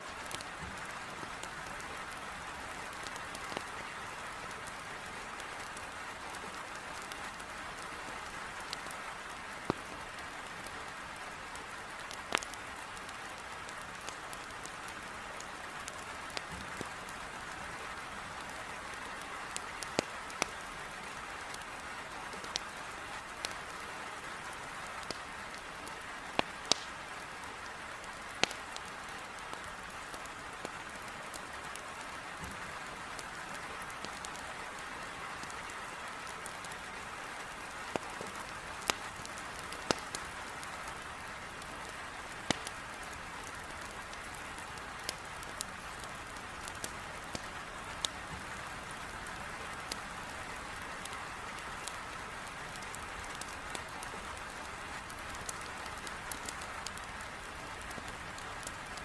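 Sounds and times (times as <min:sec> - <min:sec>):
heavy rain against a window: 0:00.0 - 0:59.0
wood fire crackling: 0:00.0 - 0:59.0.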